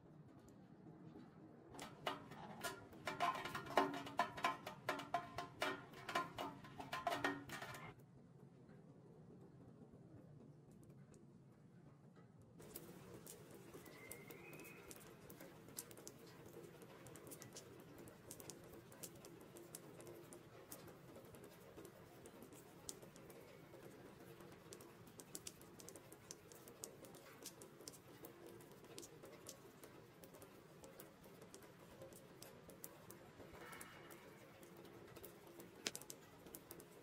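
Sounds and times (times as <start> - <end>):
soft rain hiss: 0.0 - 8.0, 12.6 - 37.0
raindrops dripping into puddle: 1.8 - 7.9, 12.6 - 37.0.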